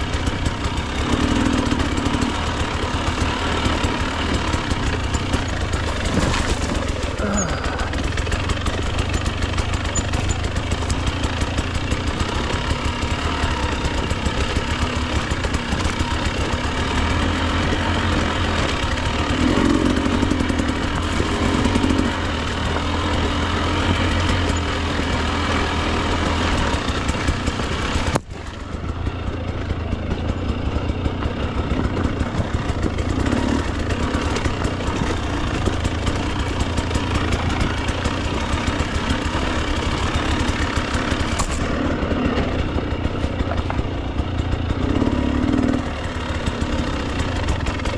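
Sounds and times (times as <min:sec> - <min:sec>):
two-stroke dirt bike engine: 0:00.0 - 0:47.9.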